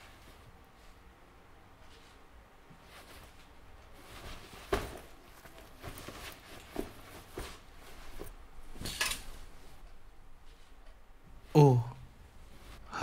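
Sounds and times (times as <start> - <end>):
clothing rustling: 0.0 - 11.5, 12.1 - 13.0.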